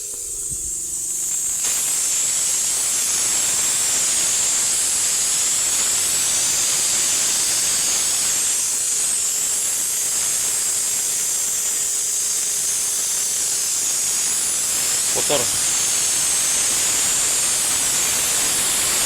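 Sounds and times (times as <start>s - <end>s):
pressurised spray hissing: 0.0s - 19.0s.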